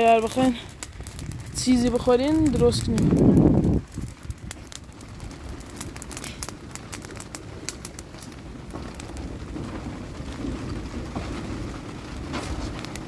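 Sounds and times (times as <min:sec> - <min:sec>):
light clicks and patter: 0:00.0 - 0:13.0
steady low rumble: 0:00.0 - 0:13.0.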